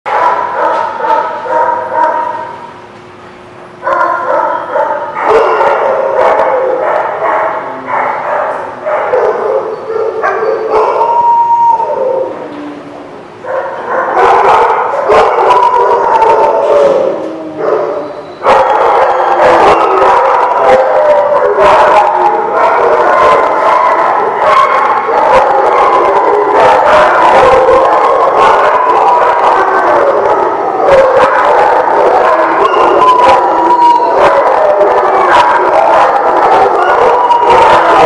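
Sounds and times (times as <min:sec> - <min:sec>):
dogs barking and howling: 0:00.1 - 0:02.7, 0:03.8 - 0:38.0.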